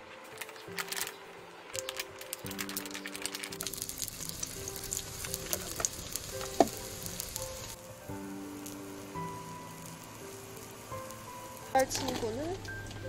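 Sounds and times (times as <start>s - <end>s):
background music: 0.0s - 13.0s
food sizzling in a pan: 1.8s - 13.0s.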